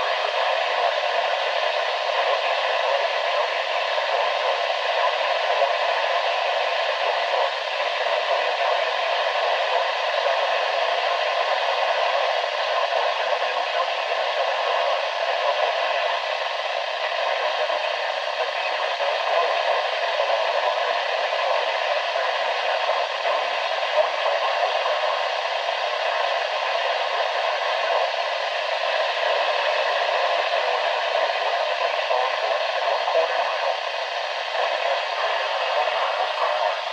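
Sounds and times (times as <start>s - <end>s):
radio static hiss: 0.0s - 36.9s.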